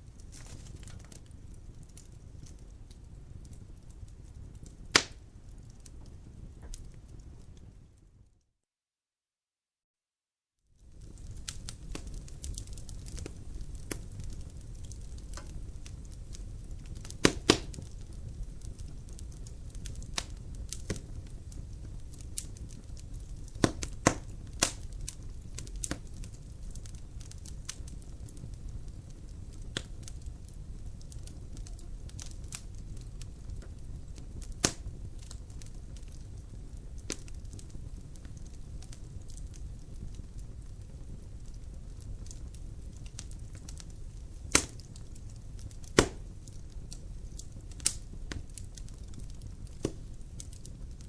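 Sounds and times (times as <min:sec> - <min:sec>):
wood fire crackling: 0:00.0 - 0:08.1, 0:10.8 - 0:51.0
sharp pops of fire: 0:00.2 - 0:07.4, 0:10.9 - 0:51.0.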